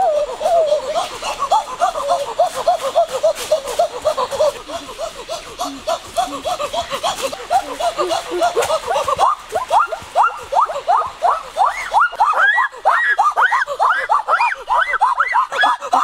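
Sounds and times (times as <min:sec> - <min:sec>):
high-pitched laughter: 0:00.0 - 0:16.0.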